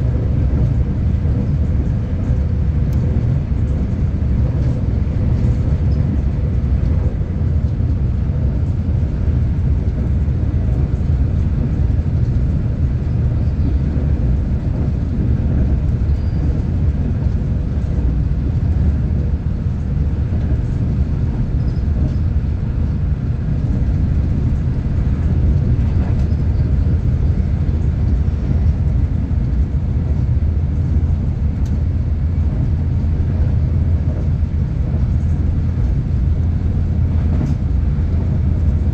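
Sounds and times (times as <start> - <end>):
train rumbling on board: 0.0 - 38.9.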